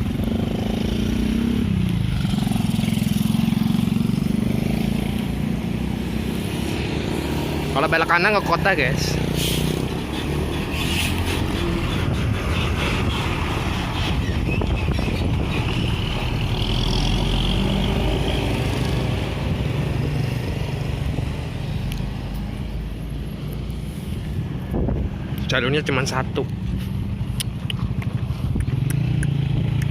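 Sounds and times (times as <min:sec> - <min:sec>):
road noise: 0:00.0 - 0:29.9
vehicle engine hum: 0:00.0 - 0:29.9.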